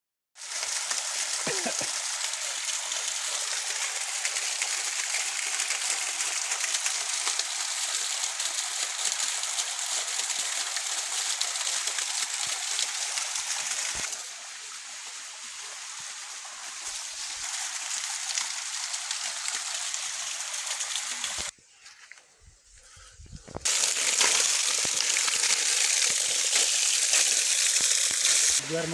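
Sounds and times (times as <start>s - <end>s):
flowing water rushing: 0.4s - 21.5s, 23.7s - 28.9s.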